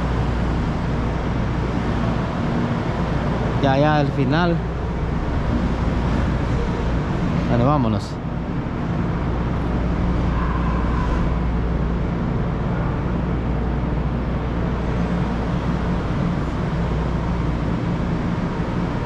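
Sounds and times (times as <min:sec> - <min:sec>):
machinery hum and rumble: 0:00.0 - 0:19.0.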